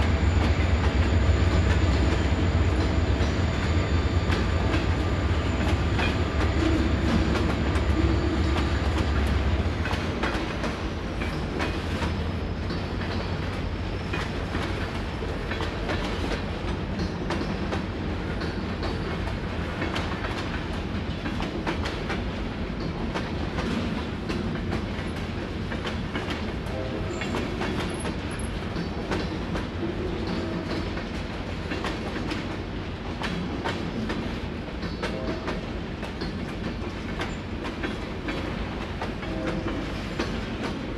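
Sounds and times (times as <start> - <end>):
freight train rumble: 0.0 - 40.9
train wheels clacking on rail joints: 0.0 - 40.9.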